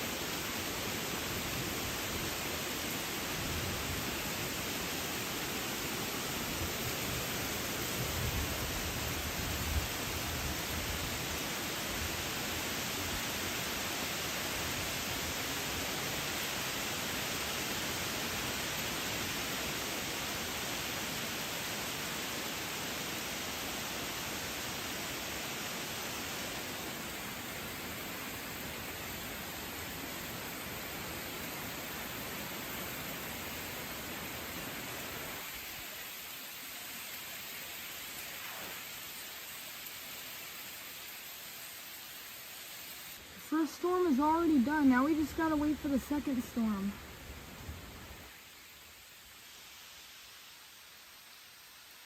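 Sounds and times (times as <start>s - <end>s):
rain and wind rushing: 0.0s - 52.0s.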